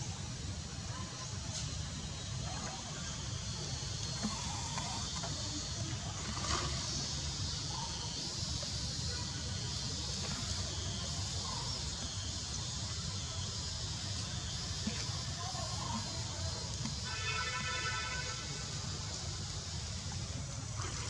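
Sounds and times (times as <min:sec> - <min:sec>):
constant high hiss: 0:00.0 - 0:21.0.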